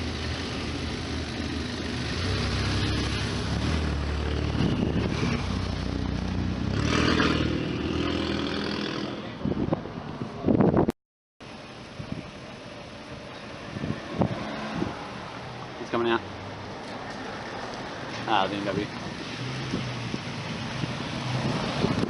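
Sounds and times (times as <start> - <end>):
car engine and exhaust: 0.0 - 22.0.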